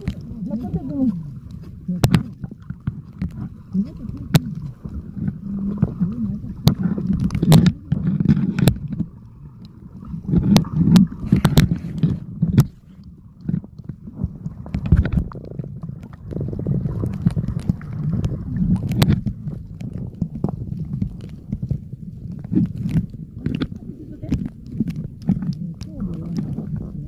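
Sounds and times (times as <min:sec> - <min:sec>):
underwater rumbling water surges: 0:00.0 - 0:27.0.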